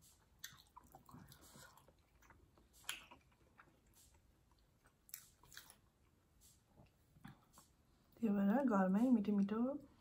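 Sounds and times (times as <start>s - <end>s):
faint chewing and mouth sounds: 0.0s - 10.0s.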